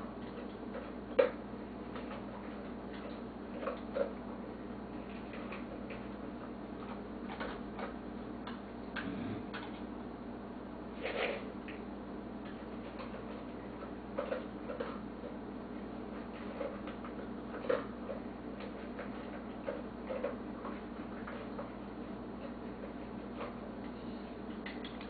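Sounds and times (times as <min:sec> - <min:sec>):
dog chewing food: 0:00.0 - 0:10.1, 0:10.8 - 0:25.0.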